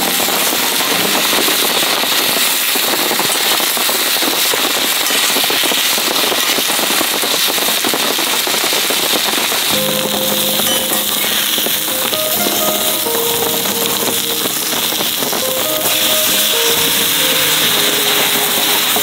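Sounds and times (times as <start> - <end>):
campfire crackling and popping: 0.0 - 19.0
food sizzling in a skillet: 0.0 - 19.0.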